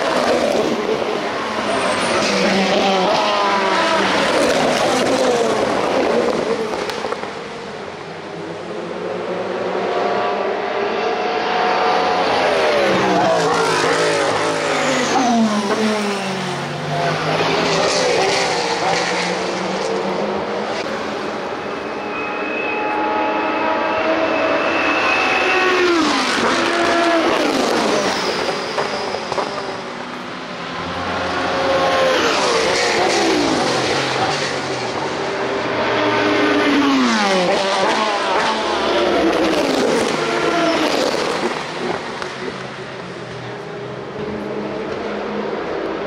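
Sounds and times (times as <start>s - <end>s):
race car engines passing by: 0.0s - 46.0s.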